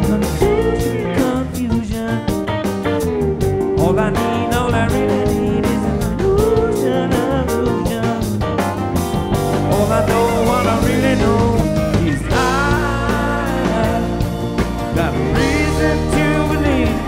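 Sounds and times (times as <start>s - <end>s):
man singing into microphone: 0.0s - 2.4s, 3.6s - 8.4s, 9.6s - 17.0s
rock band playing: 0.0s - 17.0s.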